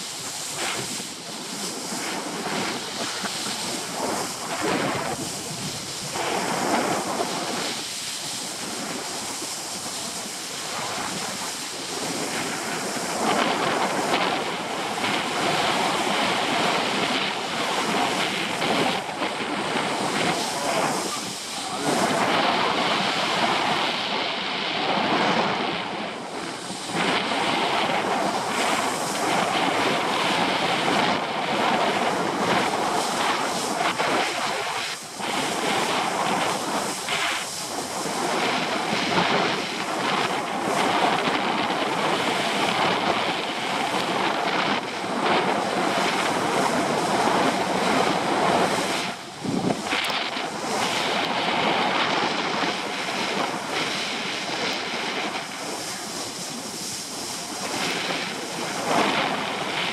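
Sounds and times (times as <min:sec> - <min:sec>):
water hissing and spraying: 0:00.0 - 0:59.9
wind on microphone: 0:00.0 - 0:59.9.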